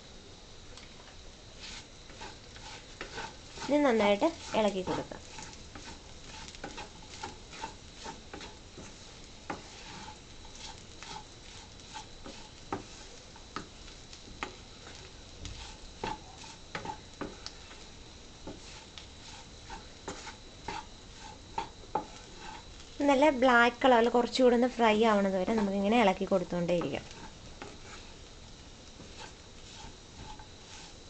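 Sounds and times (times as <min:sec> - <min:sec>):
meat sizzling faintly: 0:00.0 - 0:31.0
spatula scraping a pan: 0:01.5 - 0:22.8, 0:24.6 - 0:31.0.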